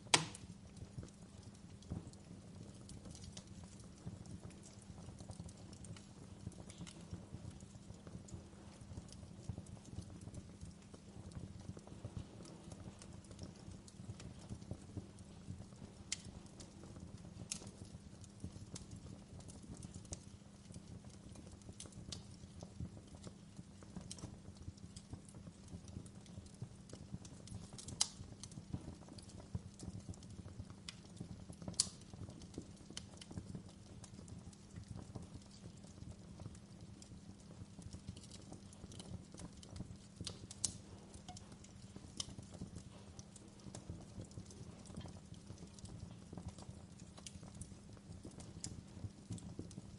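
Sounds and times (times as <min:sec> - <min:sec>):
campfire crackling: 0:00.0 - 0:49.9
sharp pops and snaps: 0:00.0 - 0:49.9.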